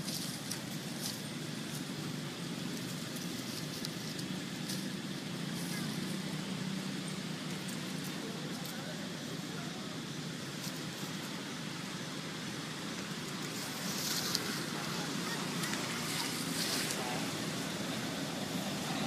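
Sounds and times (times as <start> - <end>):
hissy rustles: 0.0 - 19.0
low outdoor rumble: 0.0 - 19.0.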